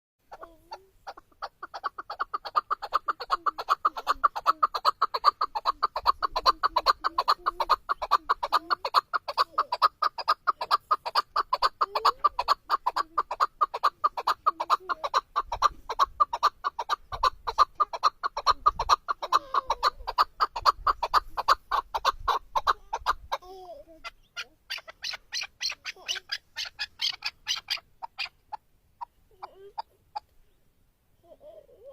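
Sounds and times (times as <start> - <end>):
partridge calling: 0.2 - 30.6.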